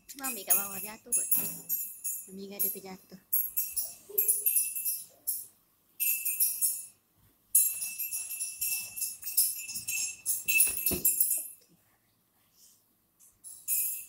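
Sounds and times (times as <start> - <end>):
jingle bells shaking: 0.0 - 11.6, 13.4 - 14.0
steady ringing tone: 0.0 - 11.6.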